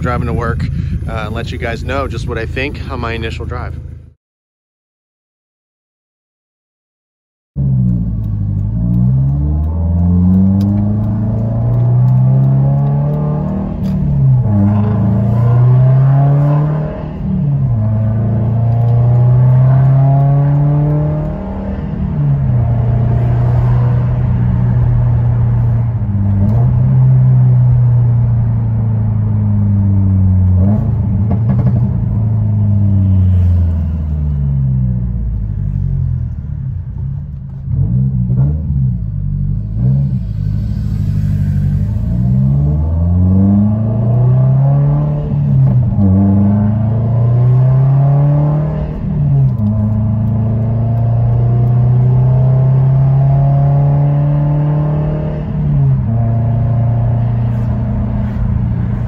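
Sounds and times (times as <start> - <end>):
car engine accelerating through gears: 7.6 - 59.0.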